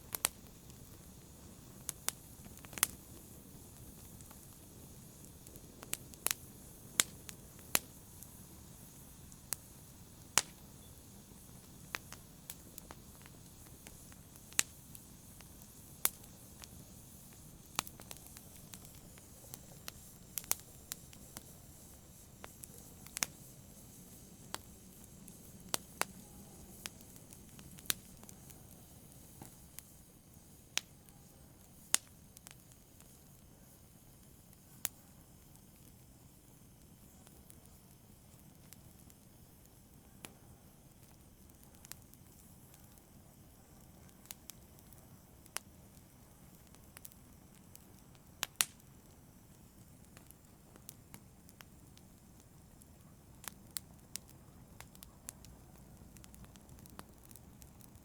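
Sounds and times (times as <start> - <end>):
faint low hiss: 0.0 - 58.0
fire crackling and popping: 0.0 - 58.0.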